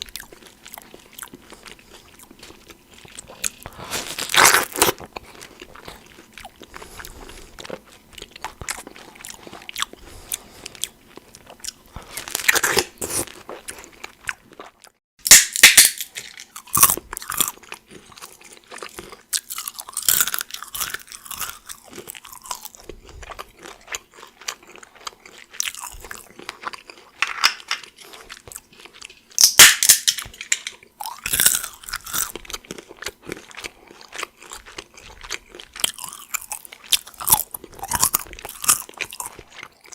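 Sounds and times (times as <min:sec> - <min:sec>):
walnuts crunching: 0:00.0 - 0:10.0, 0:15.2 - 0:39.9
wet crunching of pear chewing: 0:00.0 - 0:15.0, 0:16.5 - 0:29.4, 0:30.9 - 0:39.9.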